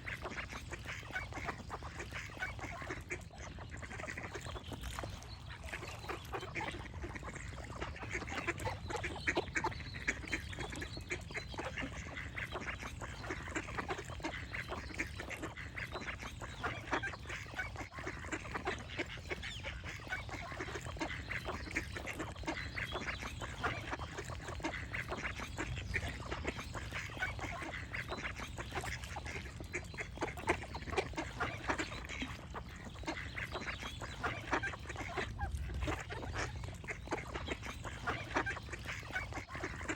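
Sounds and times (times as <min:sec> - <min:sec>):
ducks quacking: 0:00.0 - 0:39.9.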